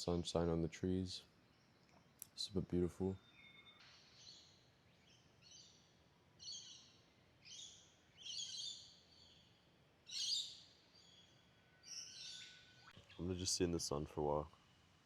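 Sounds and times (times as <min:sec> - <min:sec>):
birds calling: 0:01.2 - 0:14.4.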